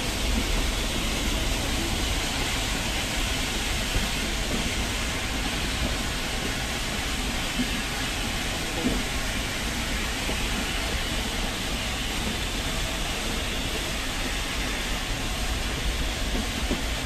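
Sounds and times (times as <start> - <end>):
moving train rumbling: 0.0 - 17.0.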